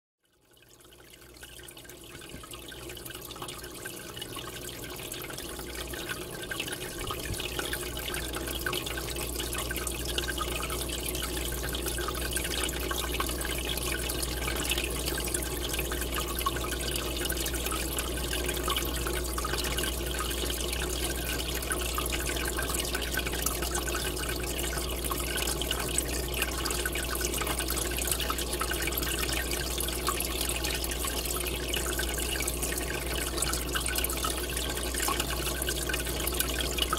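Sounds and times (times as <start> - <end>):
aquarium water bubbling: 0.2 - 36.9.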